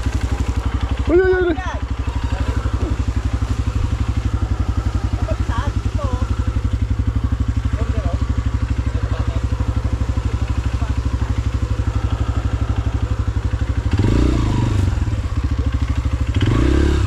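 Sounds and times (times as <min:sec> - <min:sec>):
dirt bike engine idling and revving: 0:00.0 - 0:17.0.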